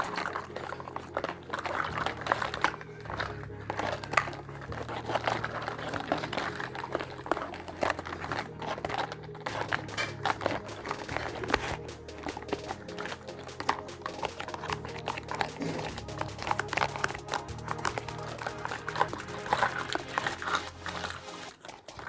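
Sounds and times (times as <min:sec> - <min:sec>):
plastic packaging crinkling: 0:00.0 - 0:22.0
soft background music: 0:00.0 - 0:22.0.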